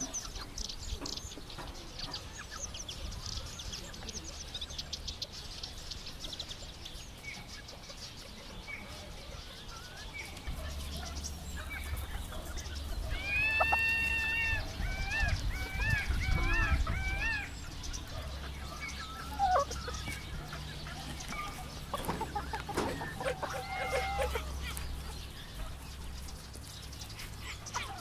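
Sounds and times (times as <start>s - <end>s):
chickens clucking and calling: 0.0s - 28.0s.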